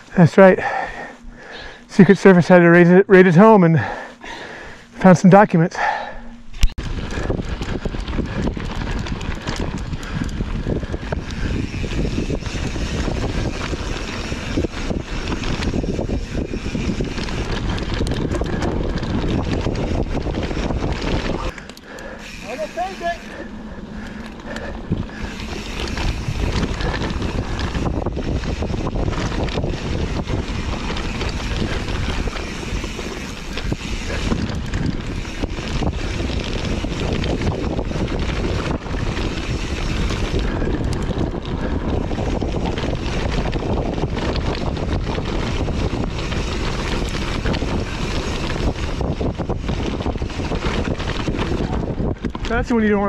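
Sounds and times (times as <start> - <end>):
bike rattling over rough ground: 0.0 - 53.0
wind rushing over microphone: 0.0 - 53.0.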